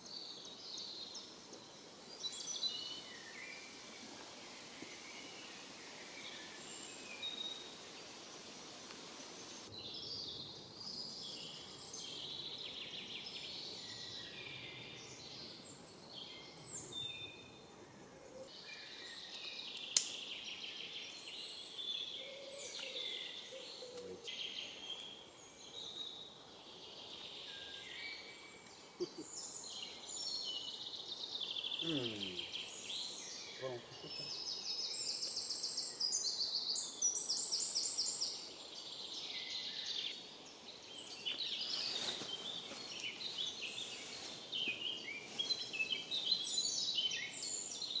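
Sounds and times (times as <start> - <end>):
songbirds singing: 0.0 - 48.0.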